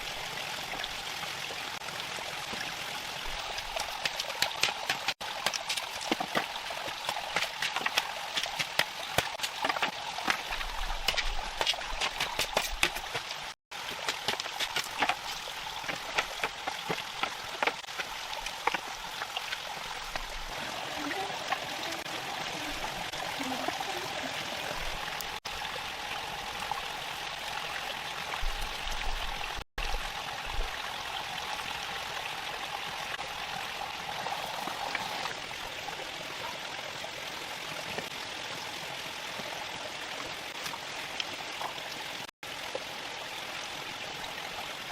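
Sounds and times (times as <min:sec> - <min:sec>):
stream running: 0:00.0 - 0:44.9.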